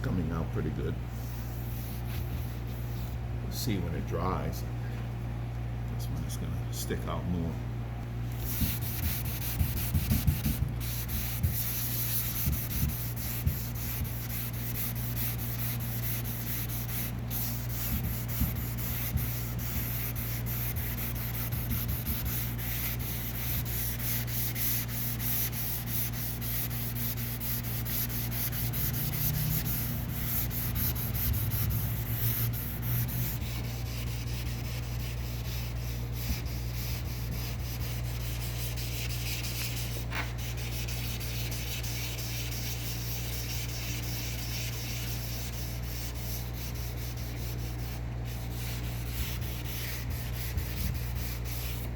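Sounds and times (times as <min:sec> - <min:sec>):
steady low hum: 0:00.0 - 0:51.9
sandpaper rubbing on painted metal: 0:01.1 - 0:03.2, 0:08.3 - 0:51.9.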